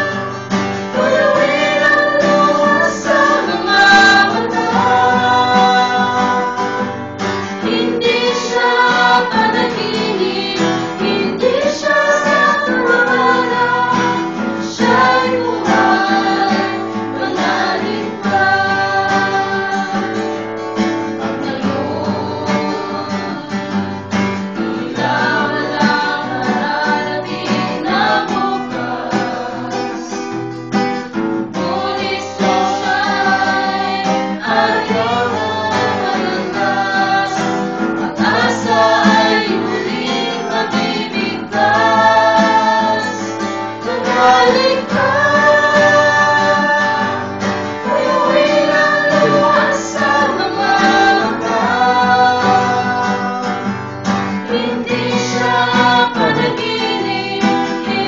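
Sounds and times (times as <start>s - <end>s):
person singing: 0.0s - 7.0s, 7.6s - 20.3s, 21.2s - 30.3s, 31.6s - 53.8s, 54.4s - 58.0s
strummed acoustic guitar: 0.0s - 58.0s.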